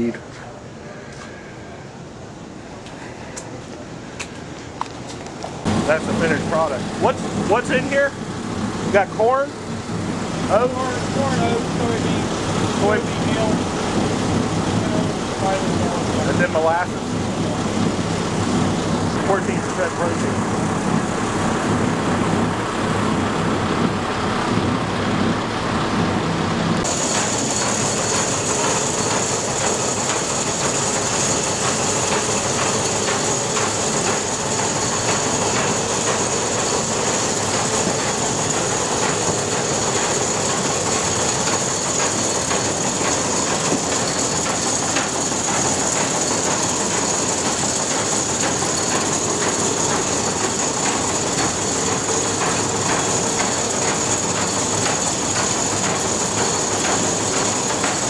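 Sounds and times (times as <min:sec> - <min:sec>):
steady high whine: 0:00.0 - 0:58.0
mill machinery clattering rattle: 0:05.7 - 0:25.3, 0:25.9 - 0:58.0.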